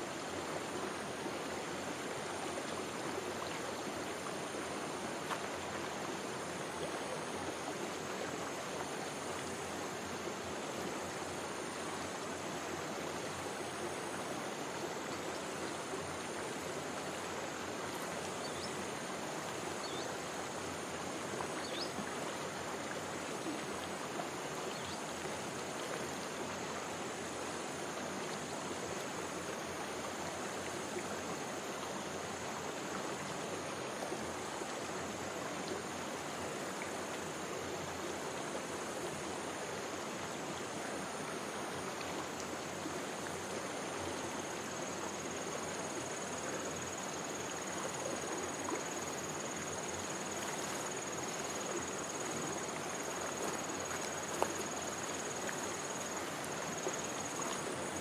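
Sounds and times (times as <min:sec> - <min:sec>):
stream flowing: 0:00.0 - 0:58.0
high insect drone: 0:00.1 - 0:58.0.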